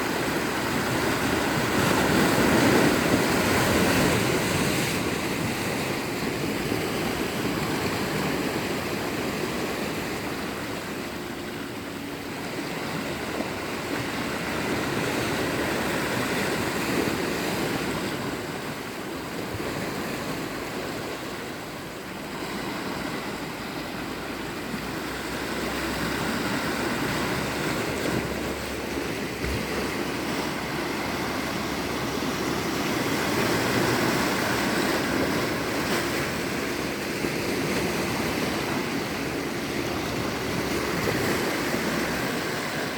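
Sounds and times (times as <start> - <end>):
sea waves washing ashore: 0.0 - 42.9.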